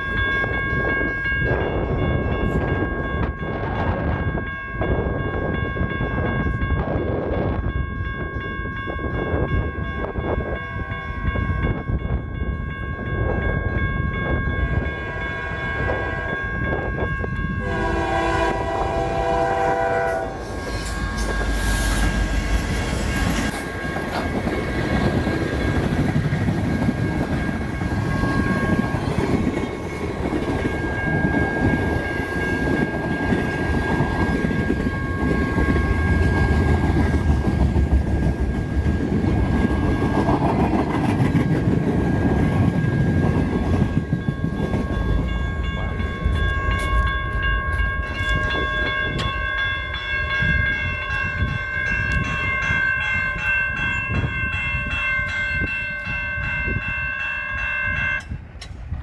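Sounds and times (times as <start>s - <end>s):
crossing bell ringing: 0.0s - 58.7s
freight train rumbling and clacking: 0.0s - 59.0s.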